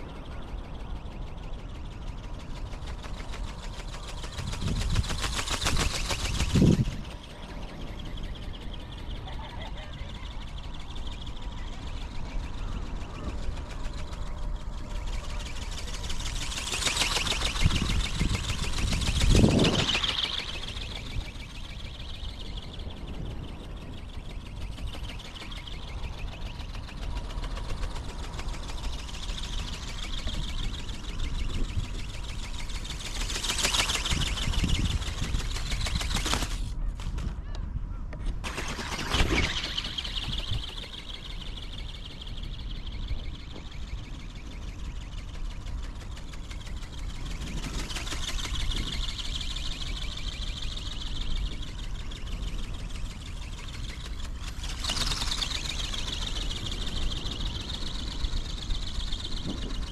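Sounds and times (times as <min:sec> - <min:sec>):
ornithopter motor whirring: 0:00.0 - 0:37.4, 0:38.1 - 0:59.9
wings flapping: 0:00.0 - 0:37.7, 0:38.3 - 0:59.9
wind rumble on microphone: 0:00.0 - 0:59.9.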